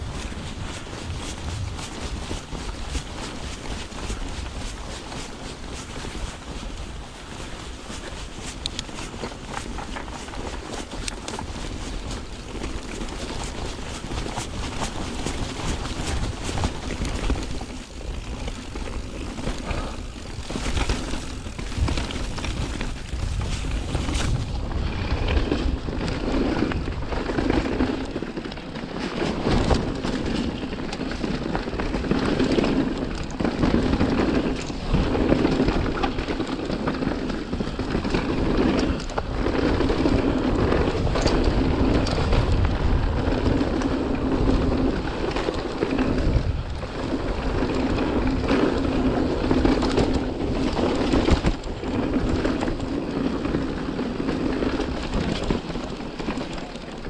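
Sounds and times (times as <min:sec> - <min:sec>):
bike knocking and rattling: 0:00.0 - 0:57.0
bike tyres rolling: 0:00.0 - 0:57.0
wind buffeting microphone: 0:00.0 - 0:57.0.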